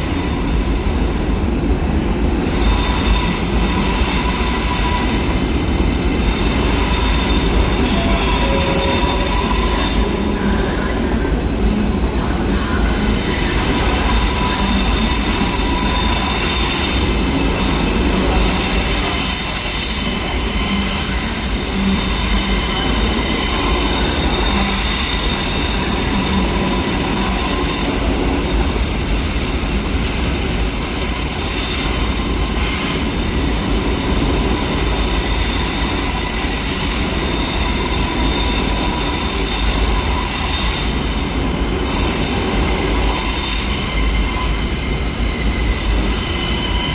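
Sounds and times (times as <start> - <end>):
train wheels squealing: 0.0 - 1.4, 2.3 - 46.9
train running gear rumble: 0.0 - 46.9.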